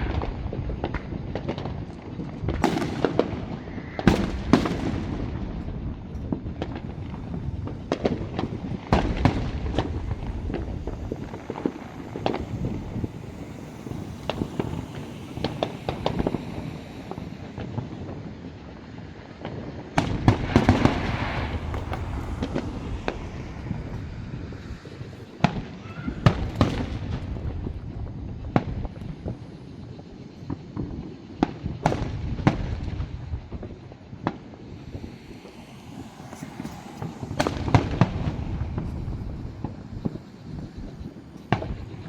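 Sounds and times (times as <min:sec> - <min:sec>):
fireworks bursting with bangs: 0:00.0 - 0:42.0
hissing crackle: 0:00.0 - 0:42.0.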